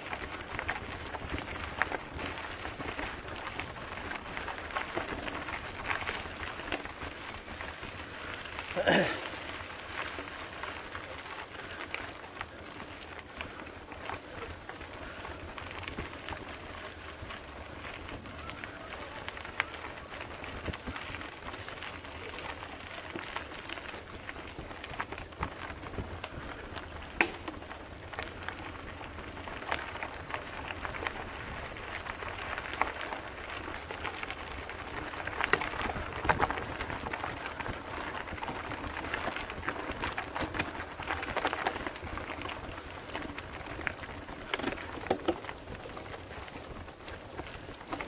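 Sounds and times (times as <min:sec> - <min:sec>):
bike rattling: 0:00.0 - 0:48.0
tyres crackling on gravel: 0:00.0 - 0:48.0.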